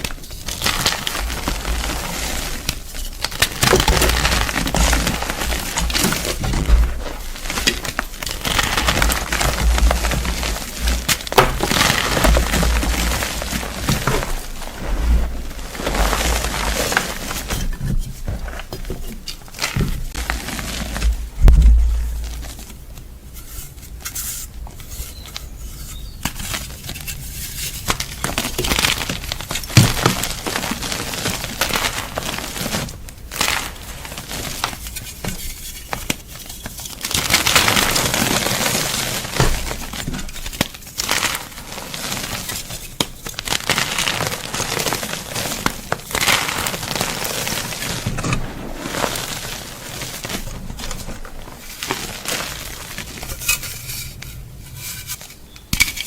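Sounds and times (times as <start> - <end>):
chalk crunching and crackling: 0.0 - 55.9.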